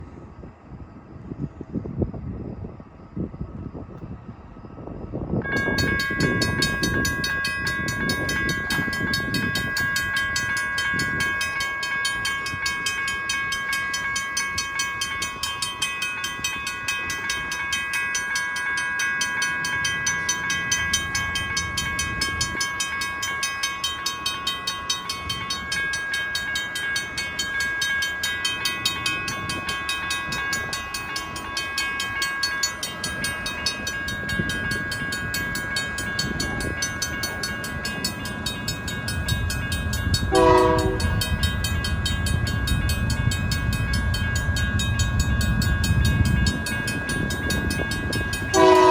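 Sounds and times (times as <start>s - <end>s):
locomotive rumble: 0.0s - 48.9s
train cars clattering: 5.5s - 48.9s.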